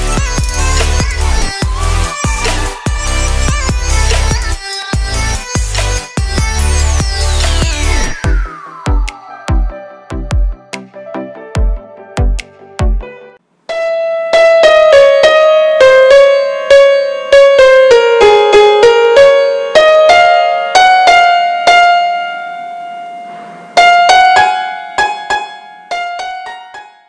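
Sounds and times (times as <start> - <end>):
piano-like keyboard melody: 0.0 - 27.0.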